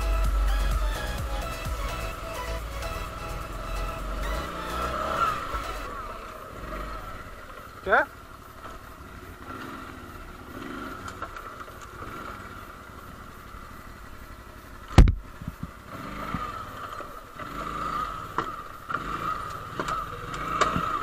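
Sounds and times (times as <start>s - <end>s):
atv engine rumbling: 0.0s - 21.0s.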